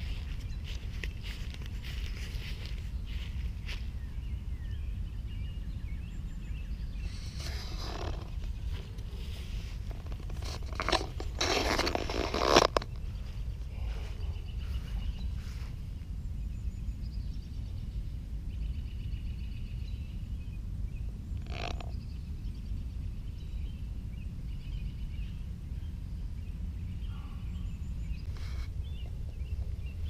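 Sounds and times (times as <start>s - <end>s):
small birds trilling: 0.0s - 30.0s
wind rumble on microphone: 0.0s - 30.0s.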